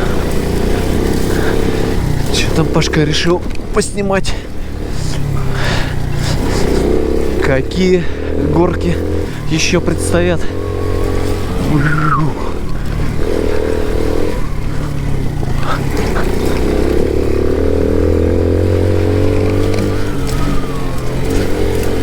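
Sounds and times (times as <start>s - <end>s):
moped engine running: 0.0s - 22.0s.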